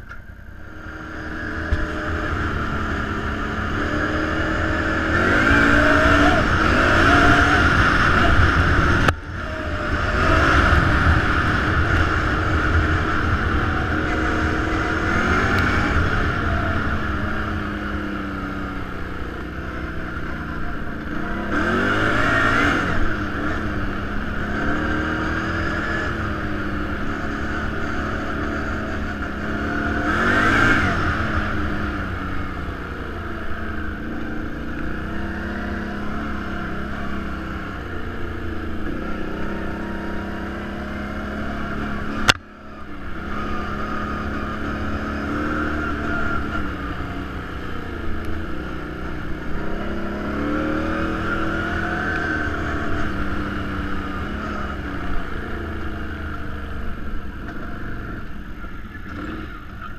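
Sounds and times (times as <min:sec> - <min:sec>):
quad bike engine revving: 0:00.7 - 0:59.9.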